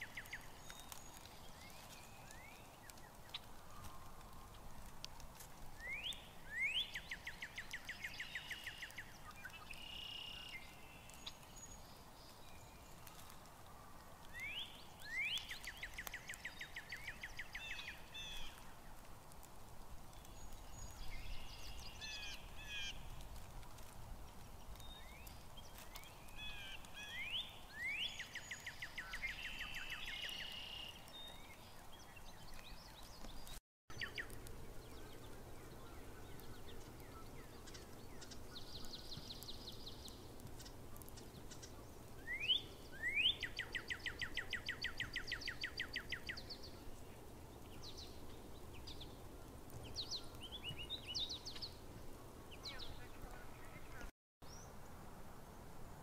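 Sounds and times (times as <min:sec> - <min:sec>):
songbirds singing: 0:00.0 - 0:19.4, 0:20.1 - 0:54.8
low woodland hum: 0:00.0 - 0:56.0.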